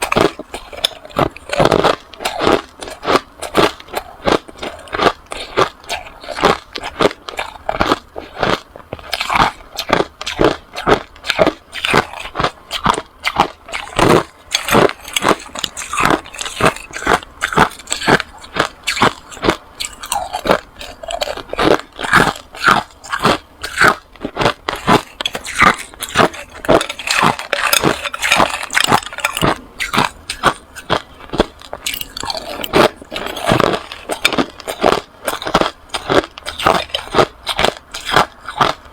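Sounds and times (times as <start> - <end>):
ice being crunched by teeth: 0.0 - 38.9.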